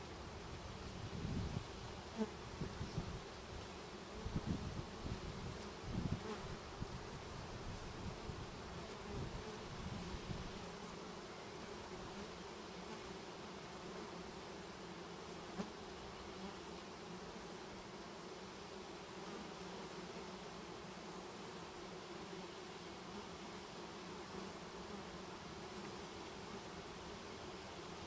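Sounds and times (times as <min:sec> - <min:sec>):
honey bees buzzing: 0:00.0 - 0:28.0.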